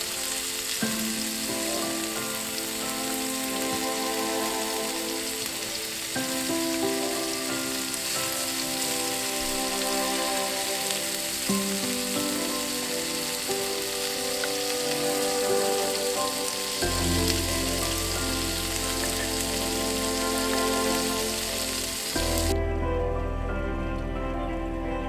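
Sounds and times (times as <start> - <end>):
food sizzling in a pan: 0.0 - 24.2
background music with deep bass: 0.0 - 25.0.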